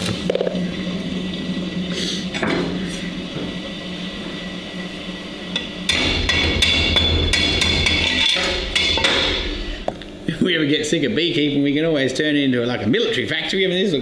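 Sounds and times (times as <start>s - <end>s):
arc welder buzzing and crackling: 0.0s - 12.0s.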